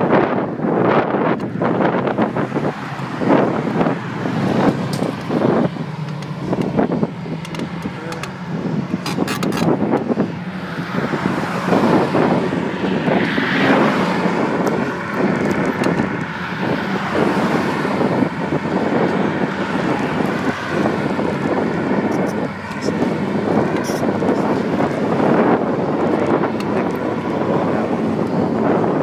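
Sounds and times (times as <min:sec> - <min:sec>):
car passing: 0:00.0 - 0:29.0
road traffic: 0:00.0 - 0:29.0
wind on microphone: 0:00.0 - 0:29.0.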